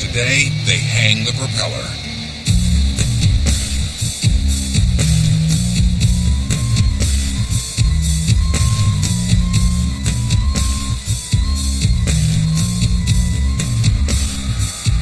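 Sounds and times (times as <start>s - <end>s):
music with drum beat and bass: 0.0s - 15.0s.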